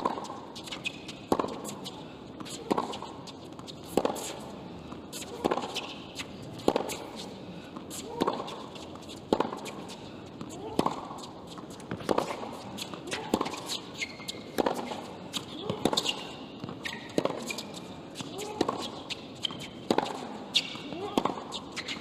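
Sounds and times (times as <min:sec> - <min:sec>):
tennis racket hitting ball: 0:00.0 - 0:01.8, 0:03.8 - 0:04.5, 0:05.1 - 0:07.2, 0:08.0 - 0:22.0.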